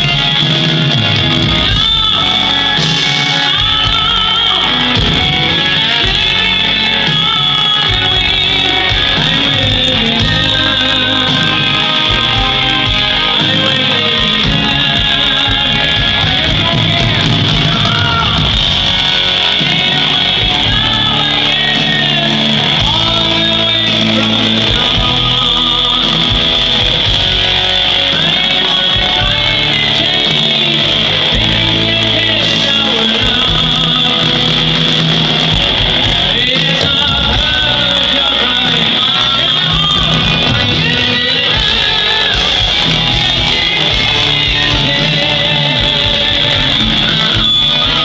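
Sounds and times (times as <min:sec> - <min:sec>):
person singing: 0:00.0 - 0:48.0
rock band playing live: 0:00.0 - 0:48.0.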